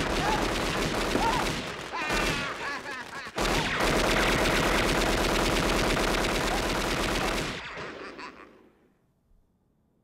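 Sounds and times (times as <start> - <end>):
submachine gun firing: 0.0 - 8.1.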